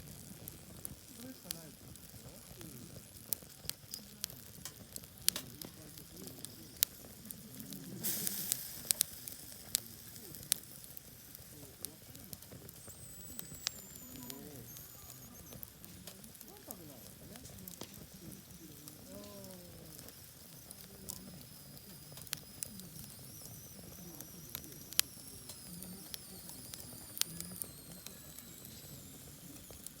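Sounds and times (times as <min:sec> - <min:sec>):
hissing: 0:00.0 - 0:30.0
sausages squeaking over fire: 0:00.0 - 0:30.0
wood fire crackling: 0:00.0 - 0:30.0.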